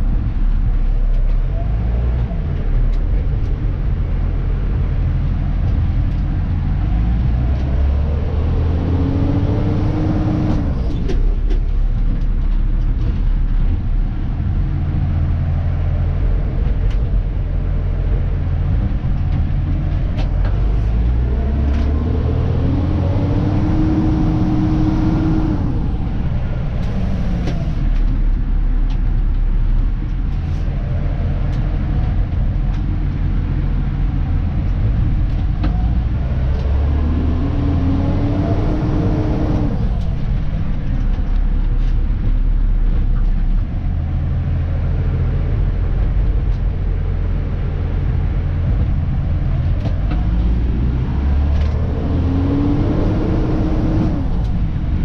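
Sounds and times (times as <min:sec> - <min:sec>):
truck diesel engine driving: 0:00.0 - 0:55.0.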